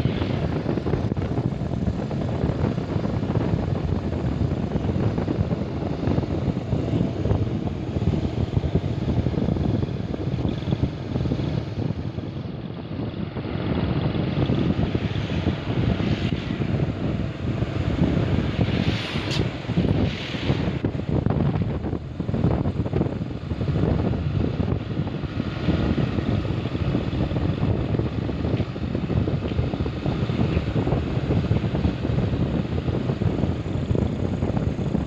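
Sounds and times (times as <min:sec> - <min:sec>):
truck engine rumble: 0:00.0 - 0:35.0
wind buffeting microphone: 0:00.0 - 0:35.0.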